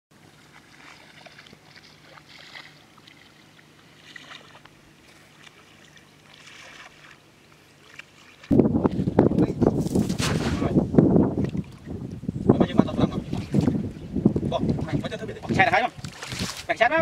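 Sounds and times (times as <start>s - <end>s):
low steady hum: 0.2s - 16.7s.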